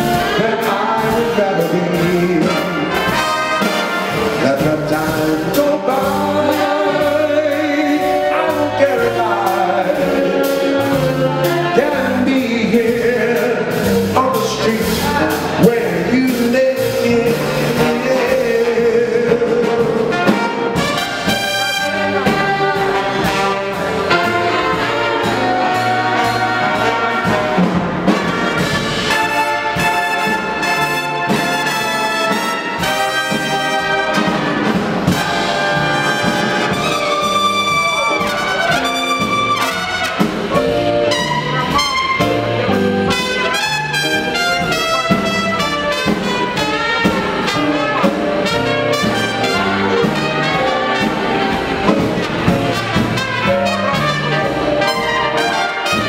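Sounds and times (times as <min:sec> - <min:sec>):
jazz big band playing: 0:00.0 - 0:56.0.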